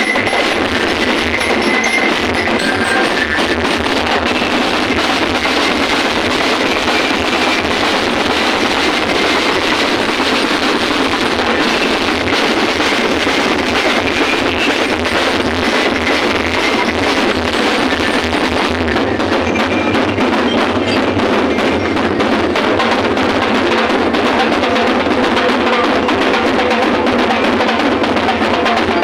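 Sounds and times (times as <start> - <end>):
fast drumming percussion music: 0.0 - 29.0.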